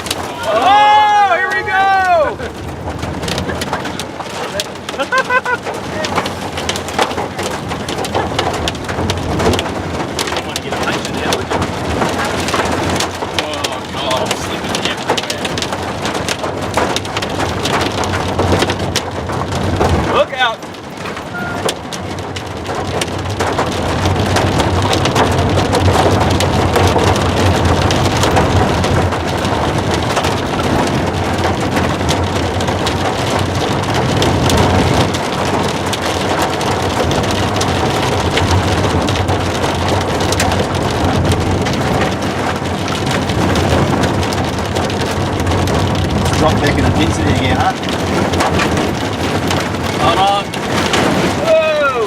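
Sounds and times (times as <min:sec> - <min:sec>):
heavy rain on vehicle roof: 0:00.0 - 0:52.0
low road and engine rumble: 0:00.0 - 0:52.0.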